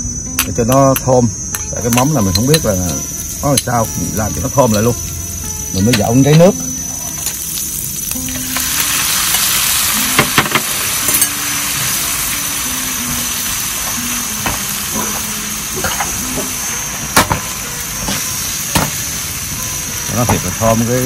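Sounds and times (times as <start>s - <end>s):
fish paste sizzling in a pan: 2.1s - 21.0s.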